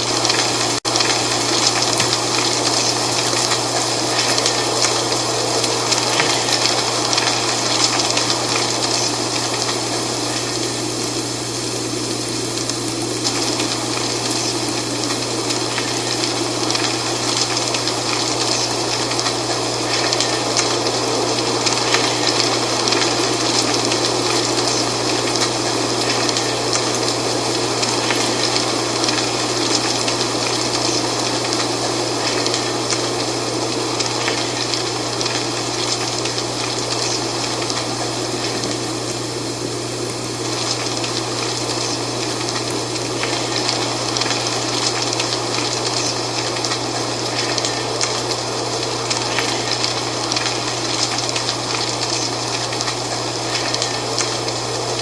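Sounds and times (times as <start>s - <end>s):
wind rustling dry leaves: 0.0s - 55.0s.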